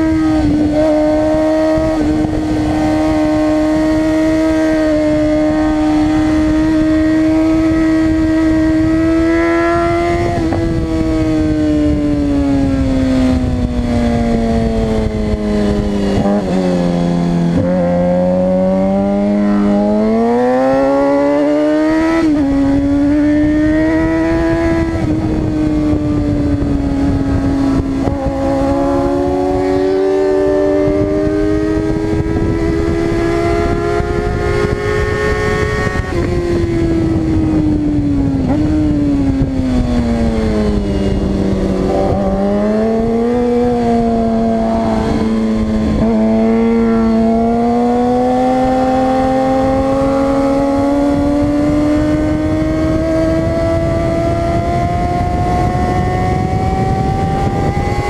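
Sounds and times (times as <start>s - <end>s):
motorcycle engine revving high: 0.0s - 58.0s
wind noise: 0.0s - 58.0s.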